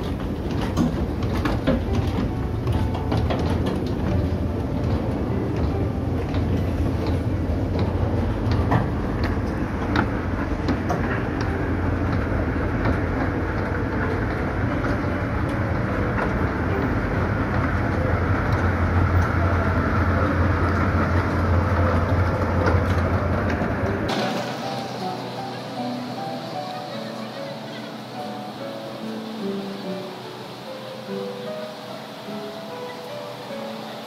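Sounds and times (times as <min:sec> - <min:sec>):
escalator rumble and hum: 0:00.0 - 0:29.7.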